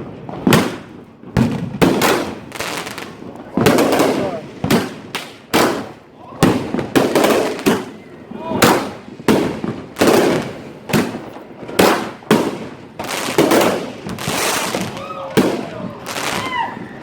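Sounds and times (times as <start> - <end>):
fireworks banging: 0.0 - 17.0
fireworks crackling: 0.0 - 17.0.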